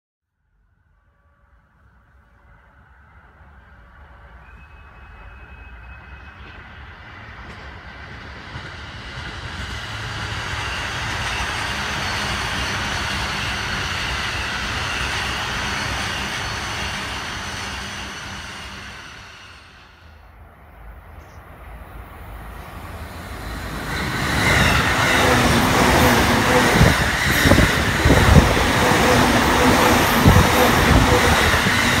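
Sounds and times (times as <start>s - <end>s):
electric train passing: 1.2s - 32.0s.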